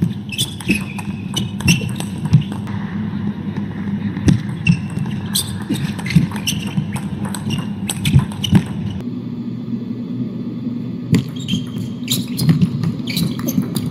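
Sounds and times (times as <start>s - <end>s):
low hall background: 0.0s - 13.9s.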